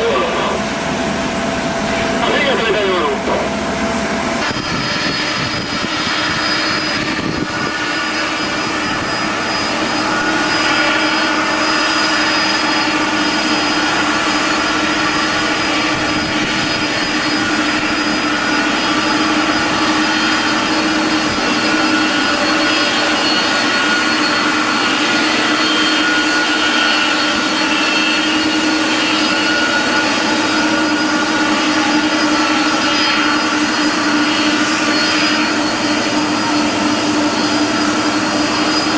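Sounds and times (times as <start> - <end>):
jet airliner engines roaring: 0.0 - 38.9.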